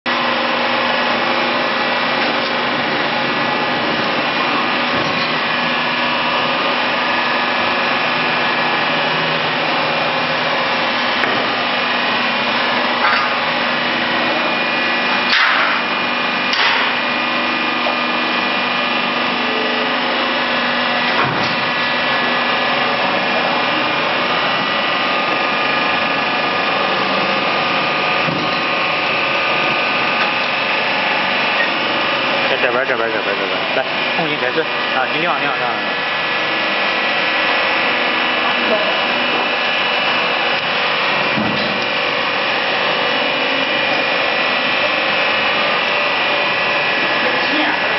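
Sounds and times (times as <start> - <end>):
knife grinding machine hum: 0.1 - 47.9.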